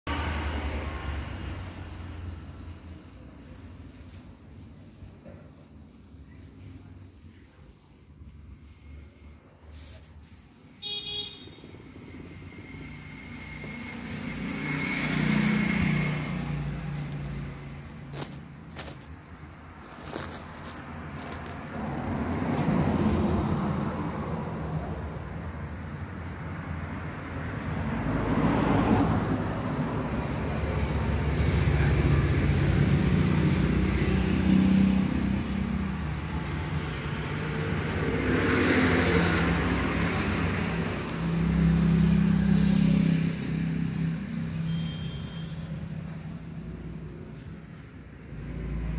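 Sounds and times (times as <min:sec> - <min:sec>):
vehicles rumbling past: 0:00.1 - 0:44.8, 0:45.6 - 0:48.9.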